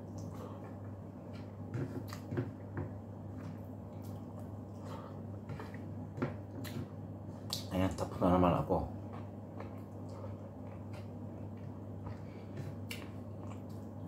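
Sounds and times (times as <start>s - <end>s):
person chewing food: 0.0s - 7.7s, 9.0s - 14.0s
steady low hum: 0.0s - 14.0s.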